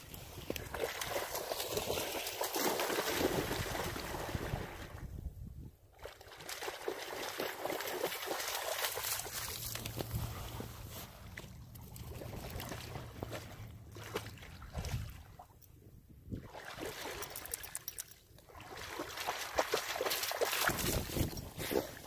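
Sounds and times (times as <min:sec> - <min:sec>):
dog splashing in water: 0:00.4 - 0:04.7, 0:06.0 - 0:15.4, 0:16.4 - 0:17.8, 0:18.5 - 0:22.0.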